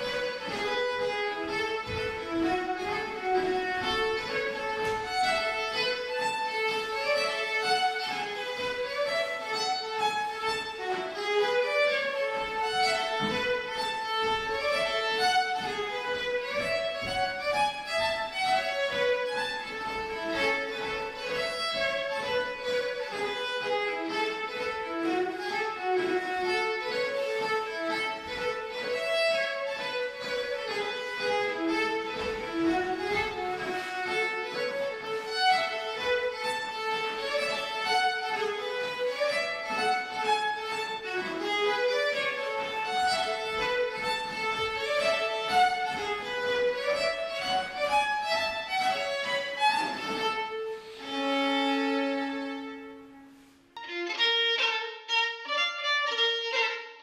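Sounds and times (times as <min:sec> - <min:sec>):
solo fiddle dance tune: 0:00.0 - 0:57.0.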